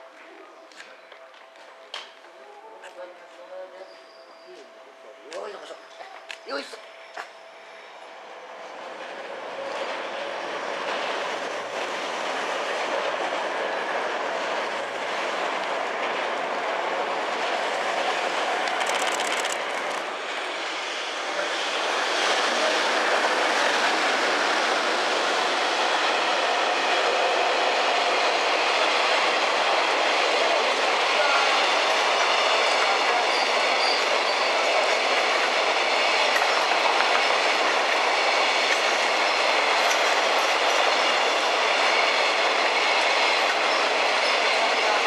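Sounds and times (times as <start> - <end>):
train wheels on rails: 3.8 - 45.0.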